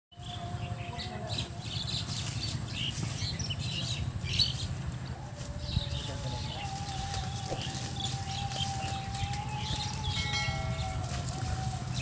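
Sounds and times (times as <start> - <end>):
small birds chirping: 0.1 - 12.0
low steady rumble: 0.2 - 12.0.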